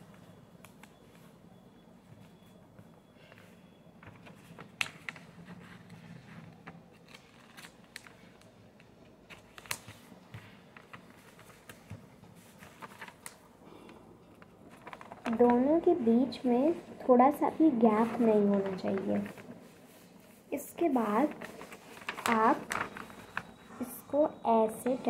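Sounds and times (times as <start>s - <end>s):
paper folding and crackling: 3.2s - 25.0s.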